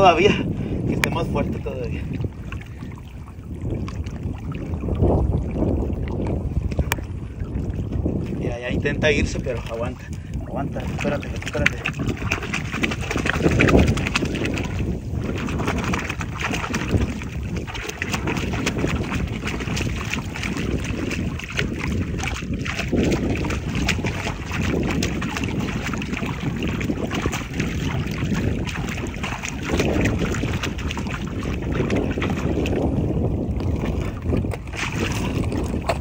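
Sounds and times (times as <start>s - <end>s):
wind noise on microphone: 0.0s - 36.0s
seawater splashing against rocks: 0.9s - 36.0s.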